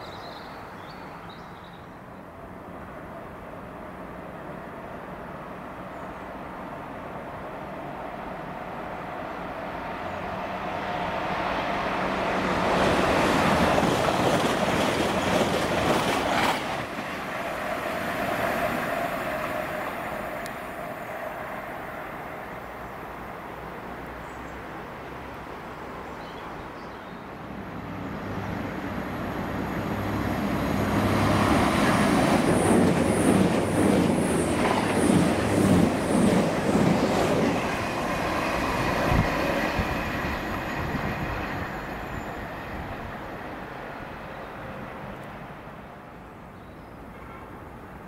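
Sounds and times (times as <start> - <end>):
train rail and wheel noise: 0.0 - 48.0.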